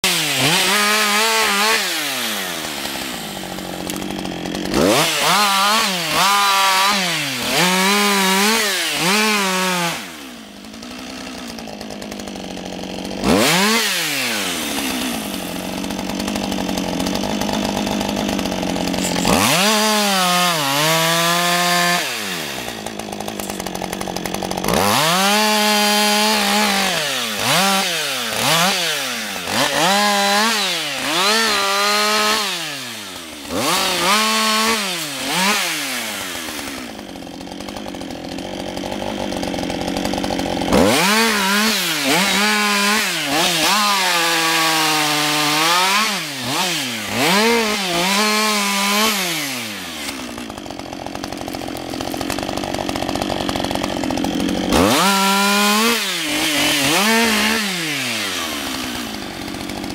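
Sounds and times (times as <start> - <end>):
chainsaw revving while cutting: 0.0 - 59.9.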